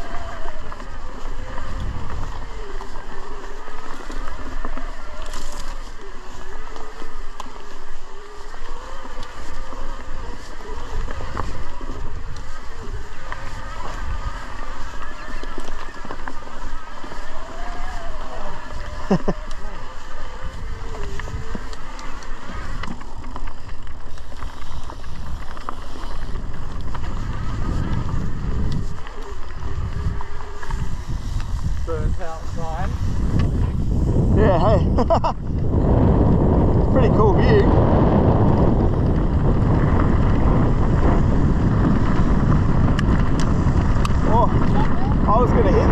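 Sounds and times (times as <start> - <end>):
bike clicks and rattles: 0.0 - 45.9
bike freewheel buzzing: 0.0 - 45.9
rumble of tyres on dirt: 0.0 - 45.9
wind: 0.0 - 45.9.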